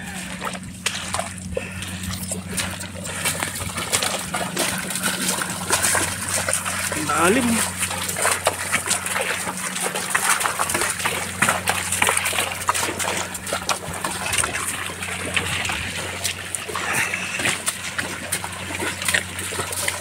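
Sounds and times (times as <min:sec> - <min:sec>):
cart wheels sloshing through mud: 0:00.0 - 0:20.0
hooves squelching through mud: 0:00.0 - 0:20.0.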